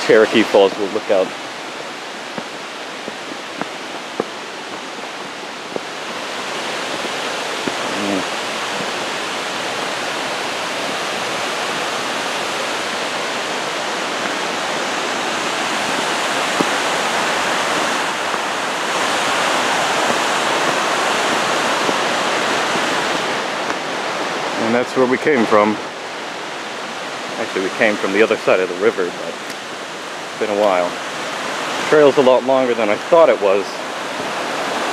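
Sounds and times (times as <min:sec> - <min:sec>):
waterfall and creek rushing: 0:00.0 - 0:34.9.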